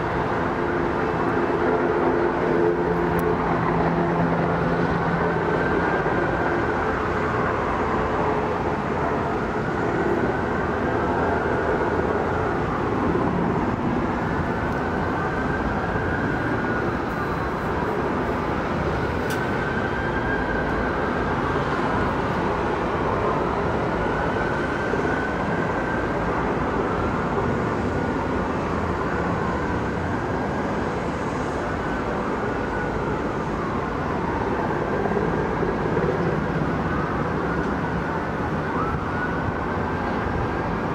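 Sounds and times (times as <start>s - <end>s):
helicopter rotor and turbine noise: 0.0s - 40.9s.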